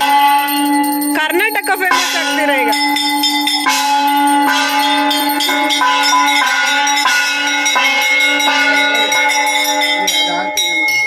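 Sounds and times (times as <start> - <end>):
brass bells ringing: 0.0 - 11.0.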